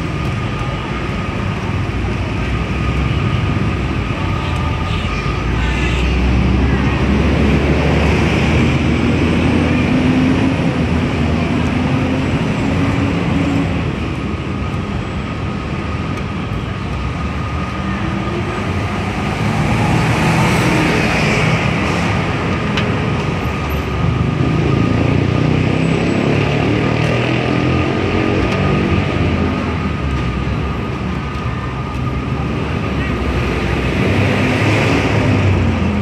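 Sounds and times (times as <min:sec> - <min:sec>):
passing vehicle engines: 0:00.0 - 0:36.0.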